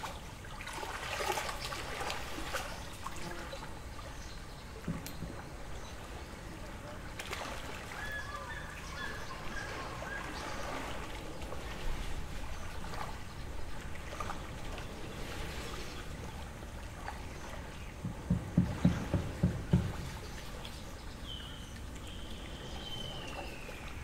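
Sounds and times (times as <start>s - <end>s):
water lapping at shore: 0.0s - 24.0s.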